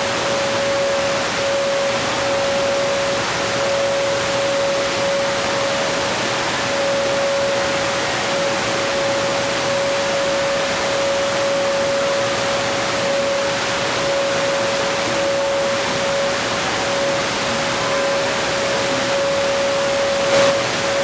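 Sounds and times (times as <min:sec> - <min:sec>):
shortwave radio static hiss: 0:00.0 - 0:21.0
steady whistle tone: 0:00.0 - 0:21.0.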